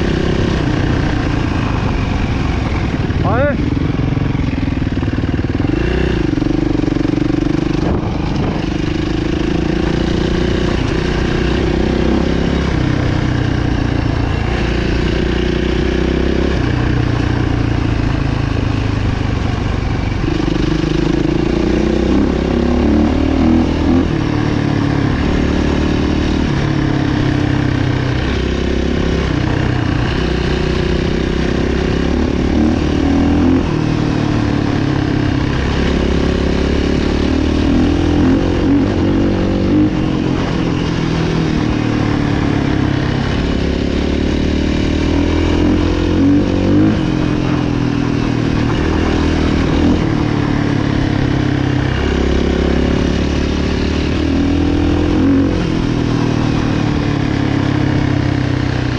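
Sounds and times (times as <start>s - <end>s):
motorbike engines revving: 0.0s - 58.9s.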